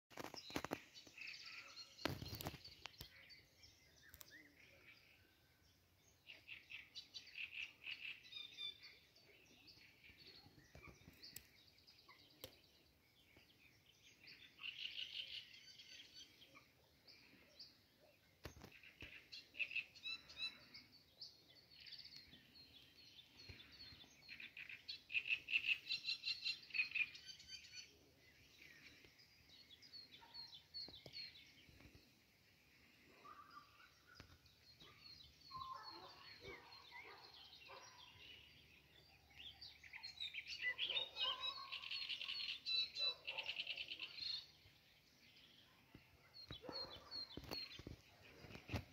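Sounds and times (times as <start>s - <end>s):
small songbird singing: 0.1s - 48.9s.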